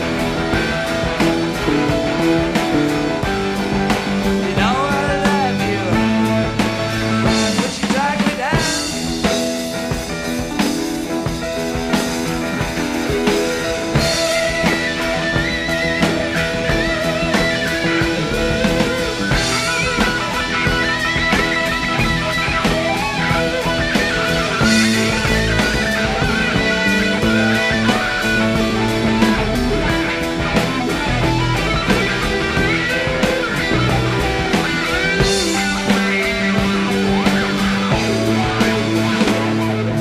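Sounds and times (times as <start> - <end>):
bass guitar: 0.0 - 40.0
drums: 0.0 - 40.0
electric guitar lead: 0.0 - 40.0.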